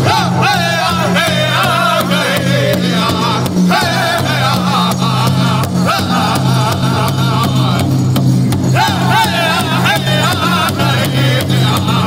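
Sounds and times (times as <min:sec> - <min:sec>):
group singing in unison: 0:00.0 - 0:12.0
large drum beating steadily: 0:00.0 - 0:12.0.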